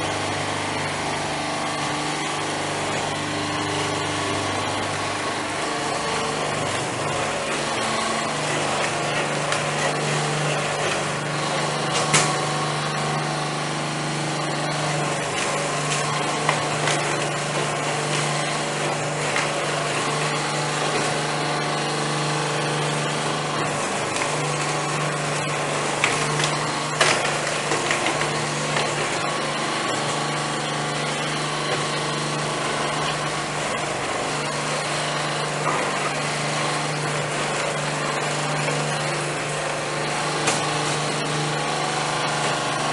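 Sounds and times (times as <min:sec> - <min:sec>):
husk peeling machine humming: 0:00.0 - 0:42.9.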